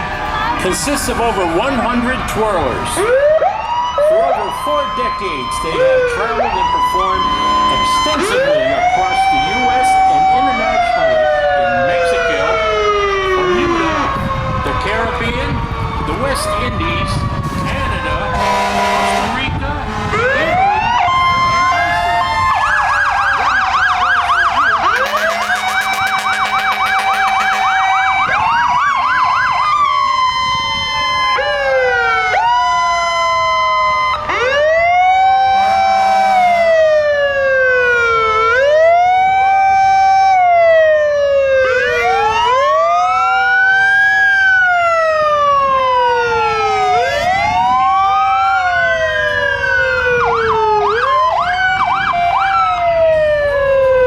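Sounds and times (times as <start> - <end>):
fire truck siren yelp: 0.0 - 54.0
fire truck sirens wailing: 0.0 - 54.0
long downward sliding siren tone: 0.0 - 54.0.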